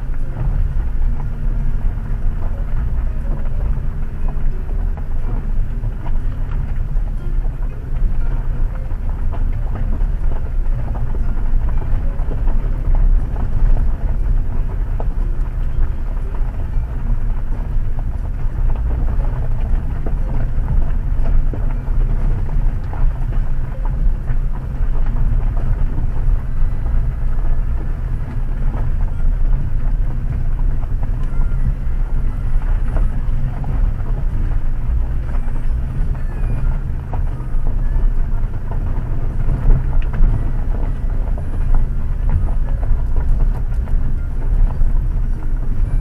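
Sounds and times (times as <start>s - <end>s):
gravel crunching under tyres: 0.0s - 46.0s
low rumble of tyres inside car: 0.0s - 46.0s.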